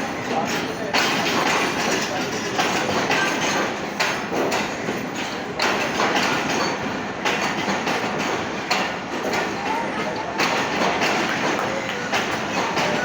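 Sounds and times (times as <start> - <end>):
train wheels rolling on rail: 0.0 - 13.0
wheels clacking over rail joints: 0.0 - 13.0.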